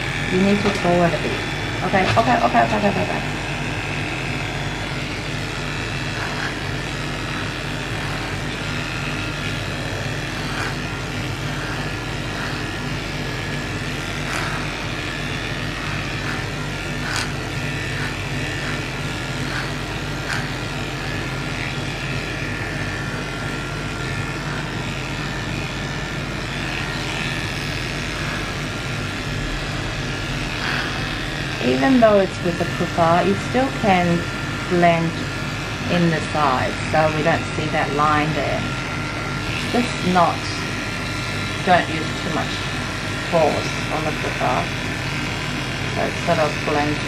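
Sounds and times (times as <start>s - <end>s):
electric hair clipper running: 0.0s - 47.0s.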